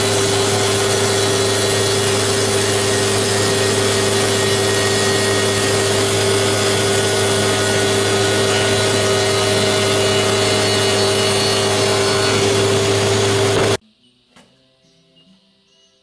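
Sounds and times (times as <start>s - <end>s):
spindle sander motor hum: 0.0s - 13.8s.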